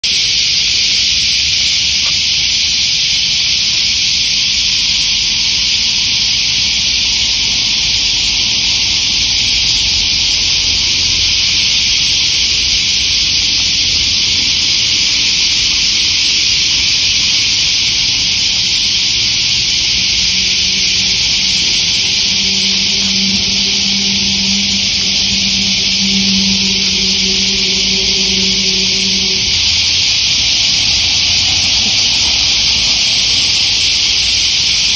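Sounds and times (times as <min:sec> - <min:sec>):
loud steady high hiss: 0:00.0 - 0:34.9.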